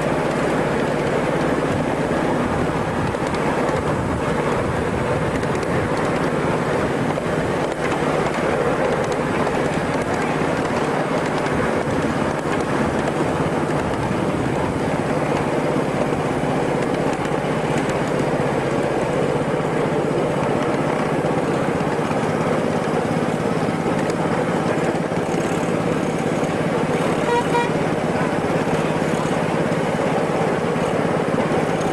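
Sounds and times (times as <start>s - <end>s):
small engine running with low hum: 0.0s - 31.9s.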